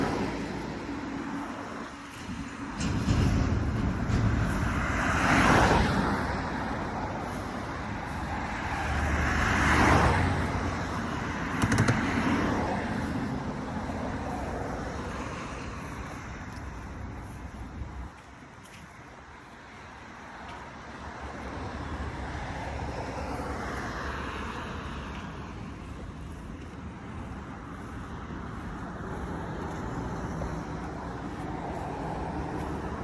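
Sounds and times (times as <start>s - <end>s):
cars driving past: 0.0s - 33.0s.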